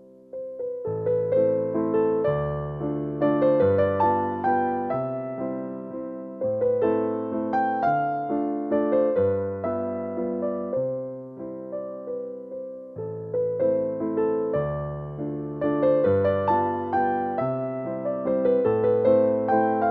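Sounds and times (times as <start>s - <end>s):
slow solo piano melody: 0.0s - 19.9s.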